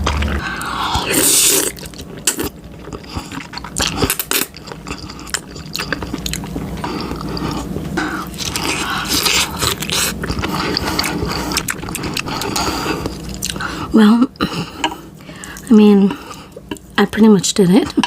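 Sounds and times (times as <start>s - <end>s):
person chewing food: 0.0s - 16.9s.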